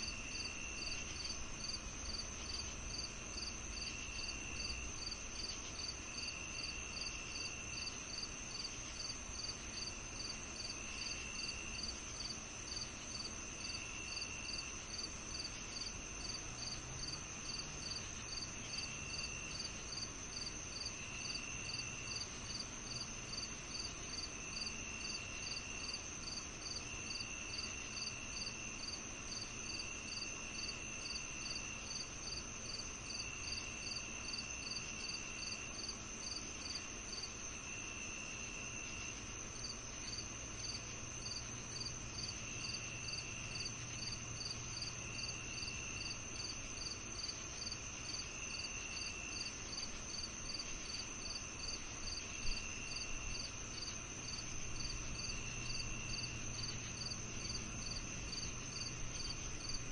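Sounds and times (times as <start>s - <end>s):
continuous high cricket trill: 0.0s - 59.9s
lower cricket trill: 0.0s - 59.9s.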